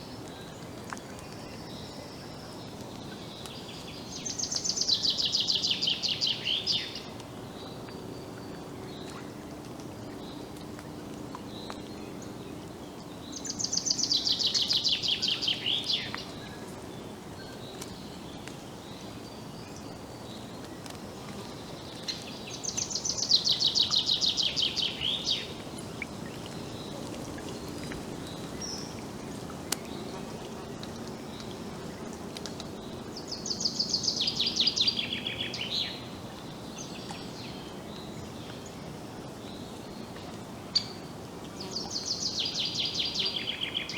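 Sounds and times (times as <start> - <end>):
low outdoor background hum: 0.0 - 43.9.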